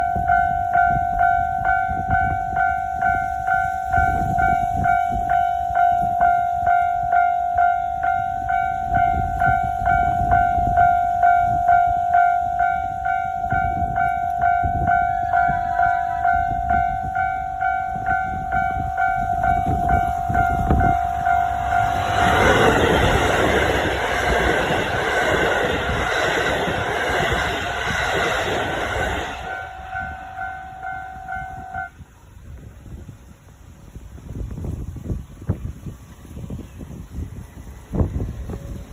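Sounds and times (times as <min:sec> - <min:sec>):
level-crossing warning bell: 0:00.0 - 0:32.0
passing train rushing: 0:00.0 - 0:38.9.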